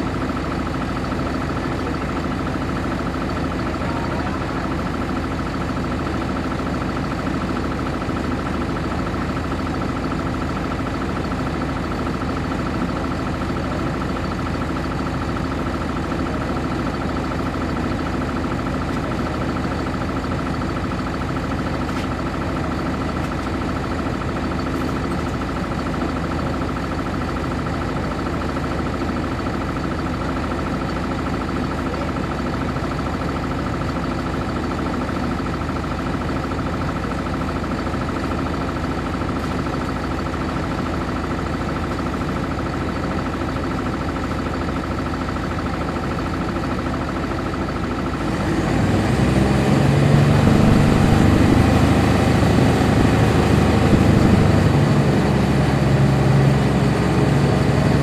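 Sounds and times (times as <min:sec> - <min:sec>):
bus diesel engine idling and revving: 0:00.0 - 0:58.0.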